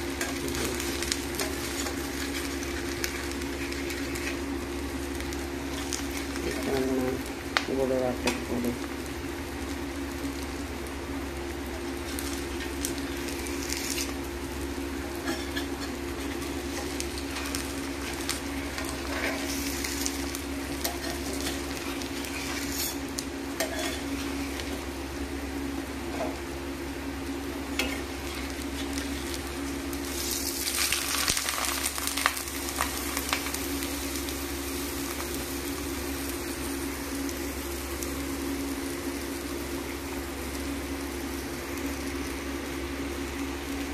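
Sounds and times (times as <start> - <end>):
pancake sizzling in oil: 0.0 - 43.9.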